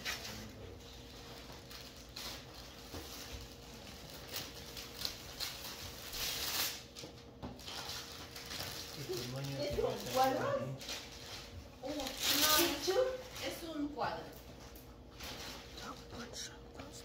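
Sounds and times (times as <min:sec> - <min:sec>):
wrapping paper rustling and tearing: 0:00.0 - 0:16.3.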